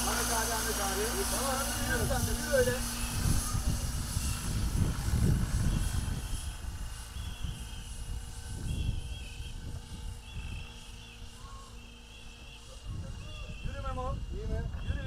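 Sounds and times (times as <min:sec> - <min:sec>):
high warbling chirps: 0:00.0 - 0:14.0
gusty wind on microphone: 0:01.1 - 0:11.8, 0:12.7 - 0:15.0.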